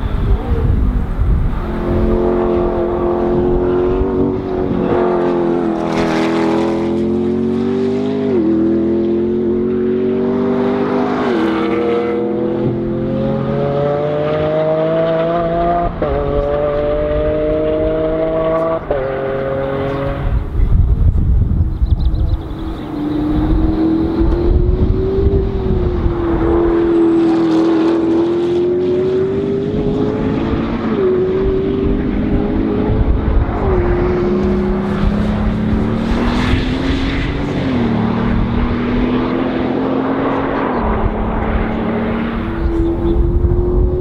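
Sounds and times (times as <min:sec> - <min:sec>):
distant race car engine: 0:00.0 - 0:44.0.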